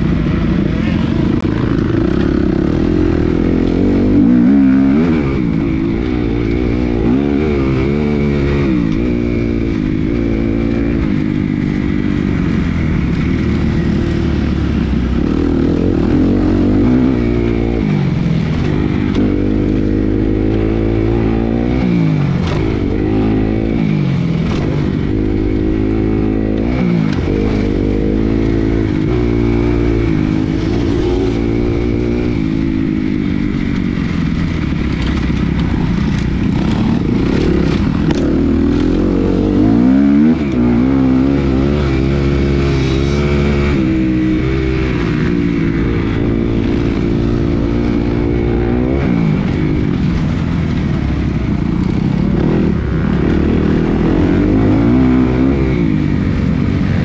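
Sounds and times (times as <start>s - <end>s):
motocross engine revving: 0.0s - 57.0s.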